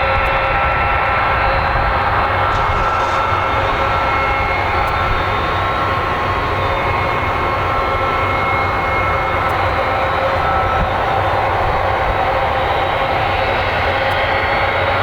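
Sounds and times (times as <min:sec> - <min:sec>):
jet turbines whining: 0:00.0 - 0:15.0.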